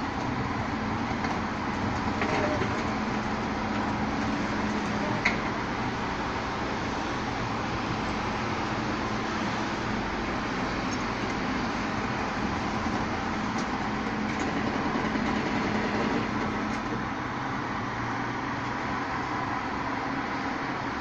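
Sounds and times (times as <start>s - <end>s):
garbage truck engine hum: 0.0s - 21.0s.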